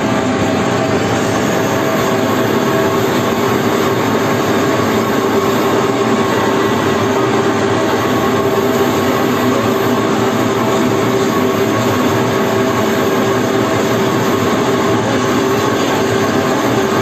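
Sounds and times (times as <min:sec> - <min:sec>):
constant hum: 0:00.0 - 0:17.0
pellet mill running: 0:00.0 - 0:17.0.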